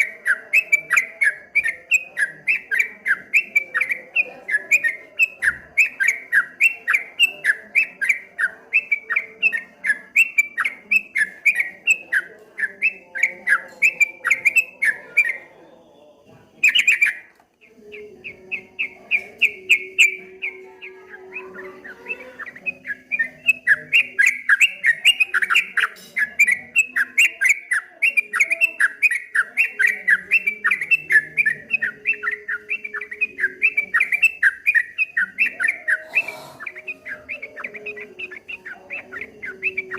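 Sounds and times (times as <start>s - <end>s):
bulbul singing rapid chirps: 0.0s - 39.9s.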